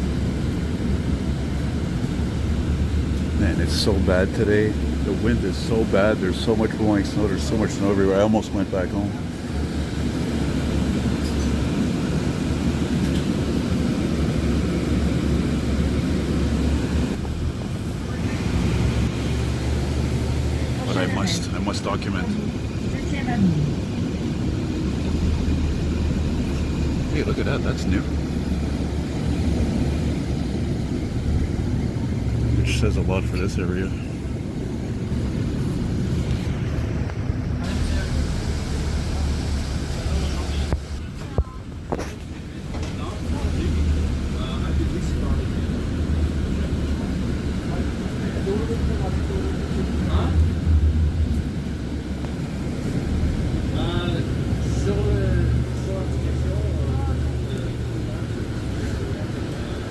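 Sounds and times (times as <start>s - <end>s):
bus engine rumble: 0.0s - 59.9s
road noise: 0.0s - 59.9s.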